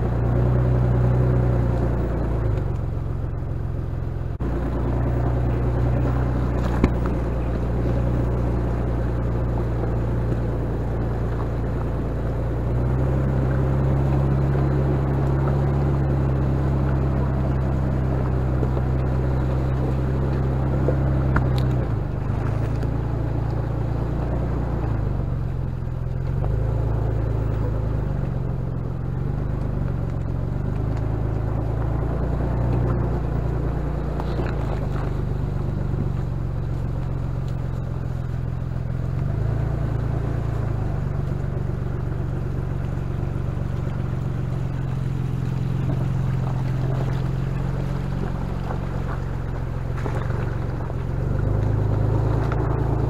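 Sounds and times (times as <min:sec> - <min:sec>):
engine running at low revs: 0:00.0 - 0:53.0.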